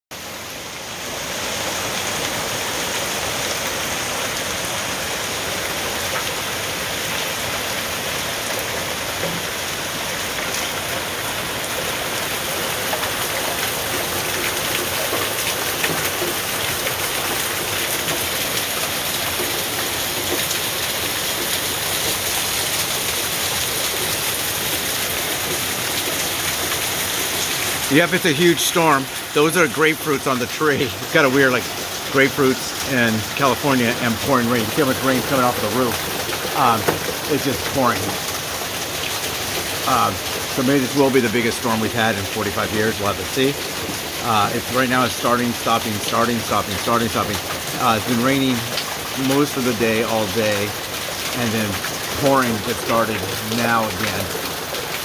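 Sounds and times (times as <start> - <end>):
heavy rain pouring: 0.1 - 55.0
water running off a roof: 0.1 - 55.0.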